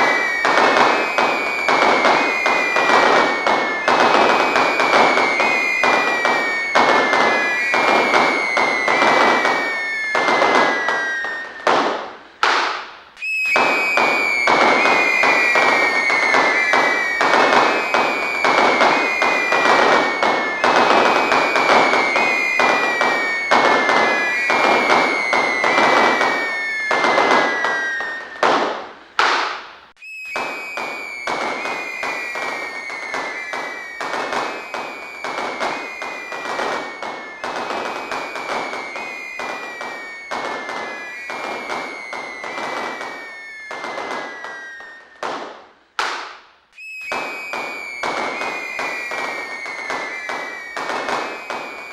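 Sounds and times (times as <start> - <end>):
fireworks crackling: 0.0 - 51.9
fireworks whistles falling in pitch: 0.0 - 51.9.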